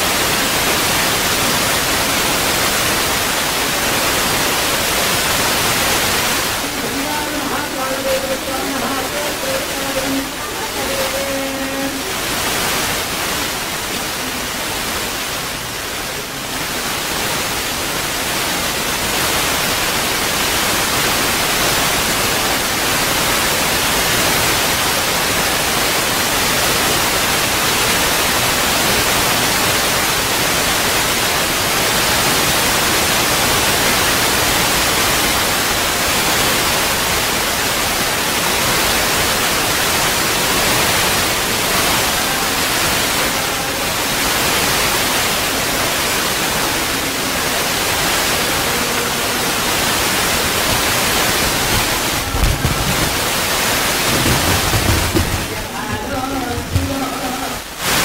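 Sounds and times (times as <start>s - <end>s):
static-like hiss: 0.0s - 58.0s.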